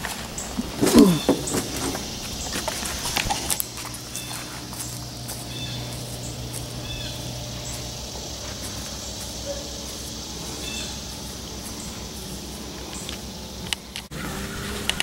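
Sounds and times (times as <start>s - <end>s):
small boat motor humming: 0.0s - 15.0s
bird chirping: 0.2s - 15.0s.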